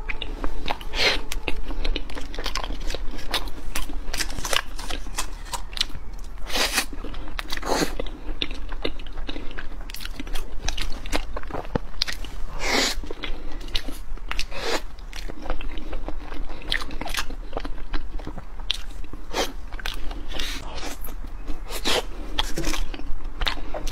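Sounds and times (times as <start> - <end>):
chewing and biting rice cakes: 0.0 - 23.9.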